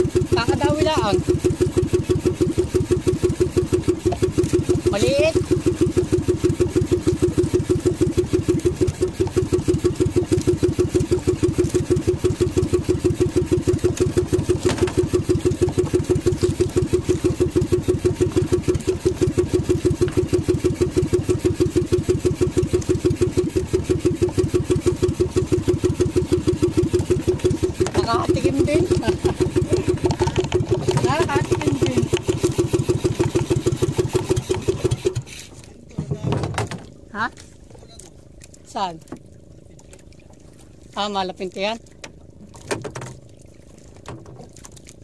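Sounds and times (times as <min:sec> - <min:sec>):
small boat engine running: 0:00.0 - 0:45.0.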